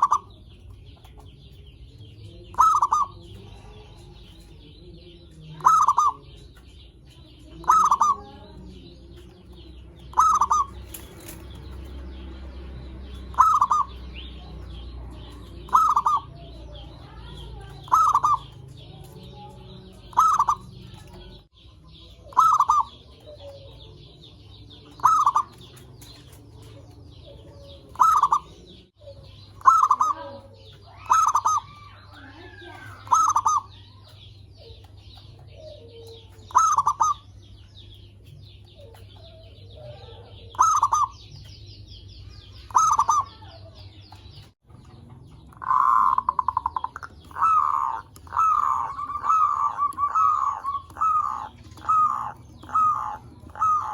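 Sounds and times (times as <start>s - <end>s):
dove cooing: 0.0s - 1.7s, 2.3s - 6.6s, 7.2s - 9.2s, 10.0s - 11.6s, 12.6s - 37.3s, 38.7s - 41.5s, 42.6s - 43.9s, 45.4s - 53.9s
small birds chattering: 0.0s - 53.9s.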